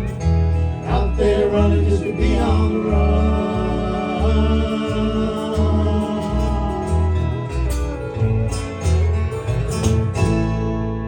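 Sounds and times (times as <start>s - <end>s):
country band guitars and lap steel: 0.0s - 11.0s.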